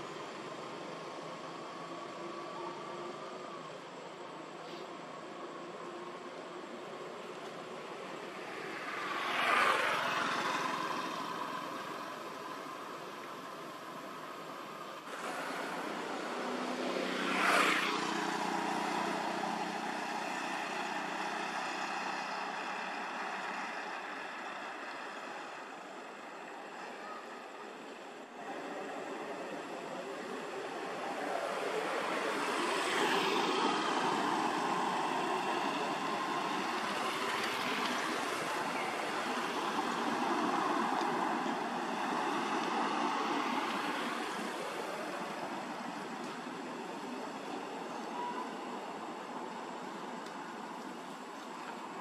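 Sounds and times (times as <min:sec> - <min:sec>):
rushing outdoor background noise: 0:00.0 - 0:52.0.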